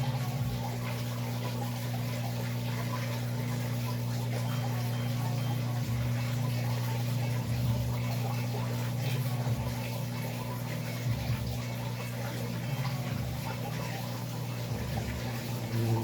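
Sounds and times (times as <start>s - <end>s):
washing machine motor humming: 0.0s - 16.0s
water sloshing in drum: 0.0s - 16.0s.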